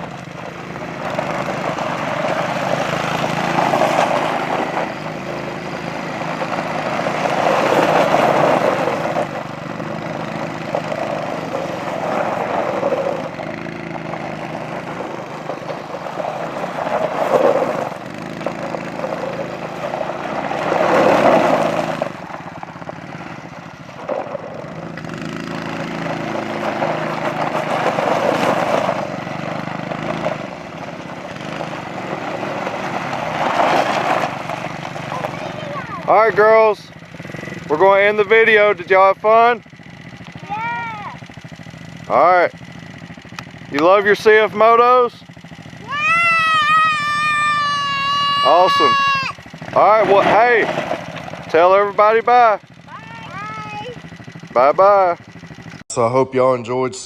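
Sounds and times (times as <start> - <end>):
quad bike engines revving: 0.0 - 56.0.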